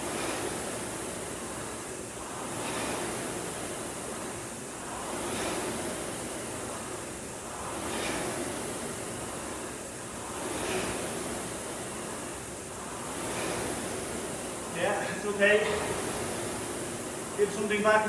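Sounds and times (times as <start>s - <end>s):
rowing machine flywheel whooshing: 0.0s - 18.0s.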